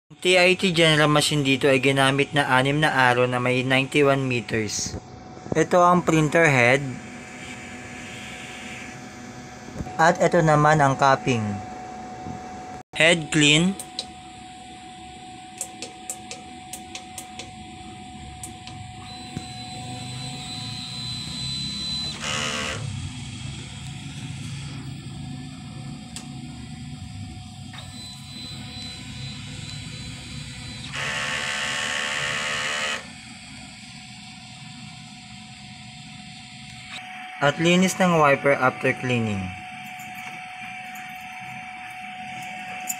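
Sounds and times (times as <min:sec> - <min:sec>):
high mechanical whine: 0:00.1 - 0:42.9
printer hum: 0:00.1 - 0:42.9.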